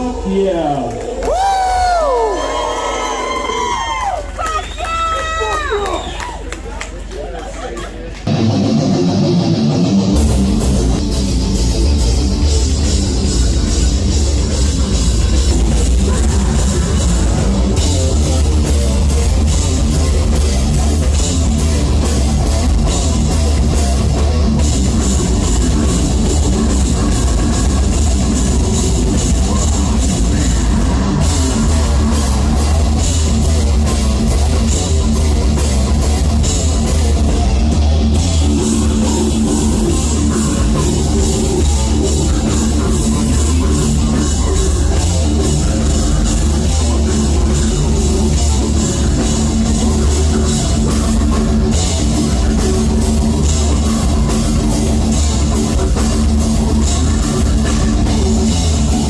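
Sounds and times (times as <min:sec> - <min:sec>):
heavy metal band playing: 0:00.0 - 0:01.0, 0:08.2 - 0:59.0.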